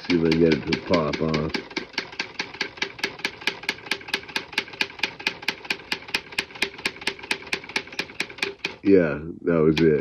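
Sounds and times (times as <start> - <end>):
manual typewriter typing: 0.0 - 8.8.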